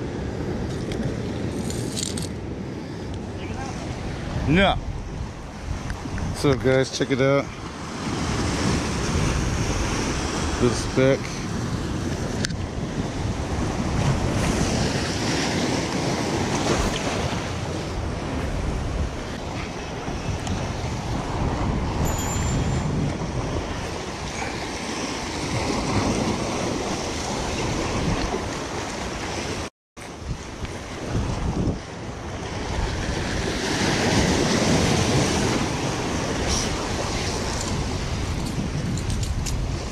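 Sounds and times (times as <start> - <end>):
wind buffeting the microphone: 0.0 - 39.9
surf washing against rocks: 3.2 - 39.9.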